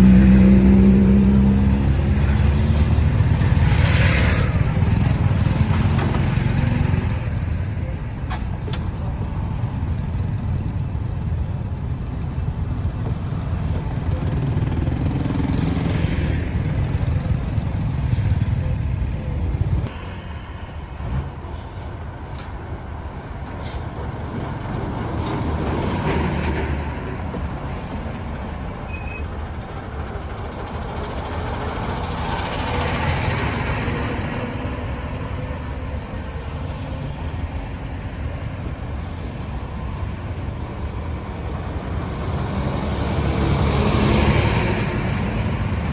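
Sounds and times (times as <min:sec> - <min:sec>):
low truck engine rumble: 0:00.0 - 0:19.9, 0:20.9 - 0:45.9
passing traffic: 0:00.0 - 0:45.9.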